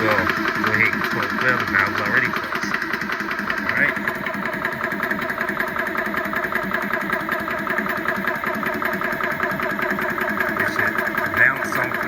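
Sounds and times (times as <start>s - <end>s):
air compressor pumping: 0.0s - 12.0s.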